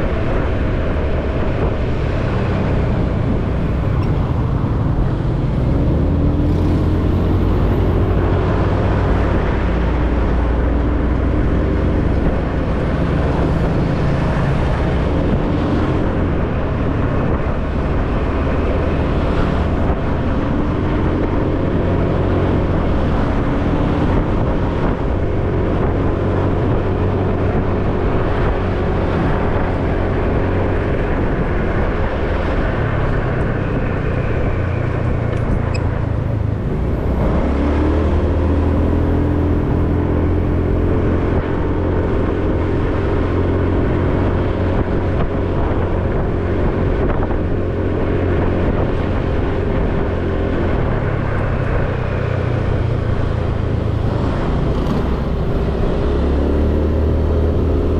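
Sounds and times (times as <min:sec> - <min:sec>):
wind rumble on microphone: 0:00.0 - 0:57.9.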